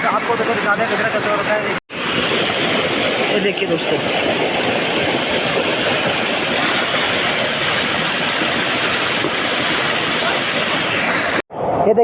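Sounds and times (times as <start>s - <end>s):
fast-flowing water rushing: 0.0s - 11.4s.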